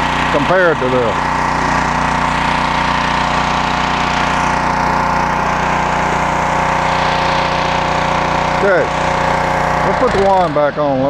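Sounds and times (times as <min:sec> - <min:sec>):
high-pressure water spraying: 0:00.0 - 0:11.0
pressure washer engine running: 0:00.0 - 0:11.0.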